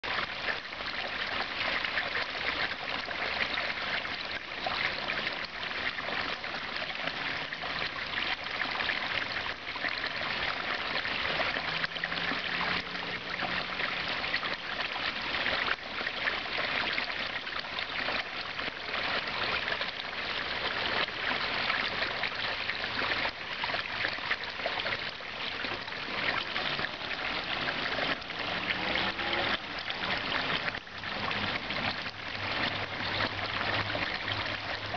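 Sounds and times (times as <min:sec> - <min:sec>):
water bubbling: 0:00.0 - 0:34.9
water pouring into pond: 0:00.0 - 0:34.9.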